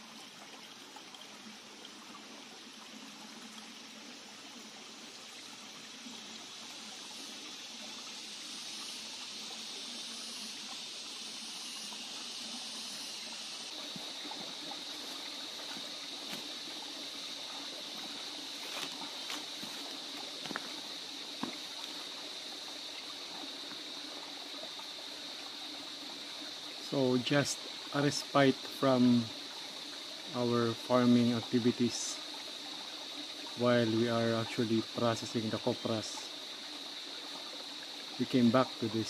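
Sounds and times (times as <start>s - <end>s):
creek trickling over rocks: 0.0s - 39.0s.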